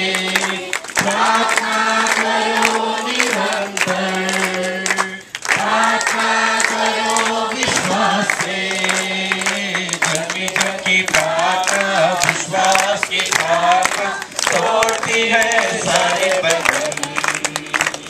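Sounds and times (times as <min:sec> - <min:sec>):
steady beat: 0:00.0 - 0:17.8
congregation singing: 0:00.0 - 0:18.0.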